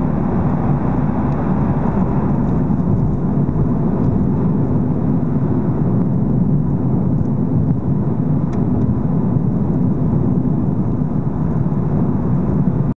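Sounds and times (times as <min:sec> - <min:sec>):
car engine and tyres rumbling: 0:00.0 - 0:12.9.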